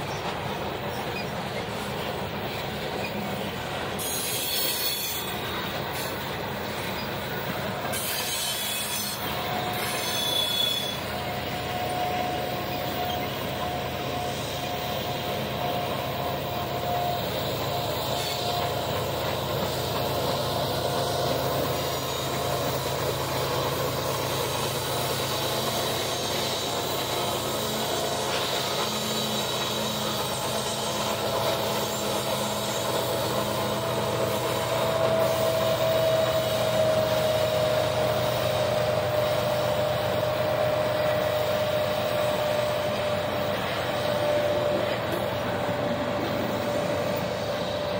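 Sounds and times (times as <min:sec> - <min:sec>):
diesel locomotive passing: 0:00.0 - 0:47.9
train wheel squeal: 0:00.0 - 0:47.9.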